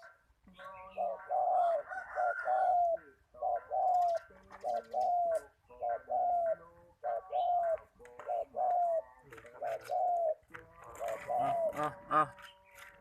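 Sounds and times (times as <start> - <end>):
dove cooing: 0.0 - 12.6.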